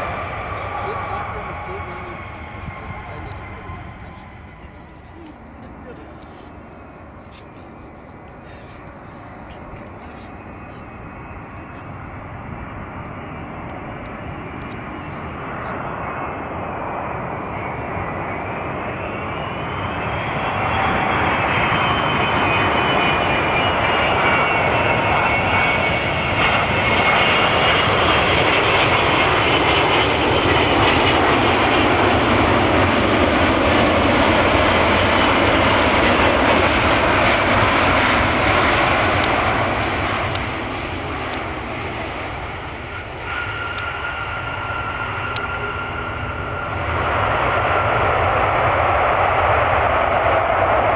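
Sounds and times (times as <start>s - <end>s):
jet airliner engines whining: 0.0s - 50.9s.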